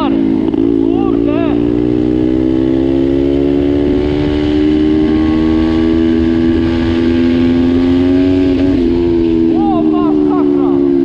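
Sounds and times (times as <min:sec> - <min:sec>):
motorbike engine running hard: 0:00.0 - 0:11.0
wind rumbling on microphone: 0:01.6 - 0:11.0.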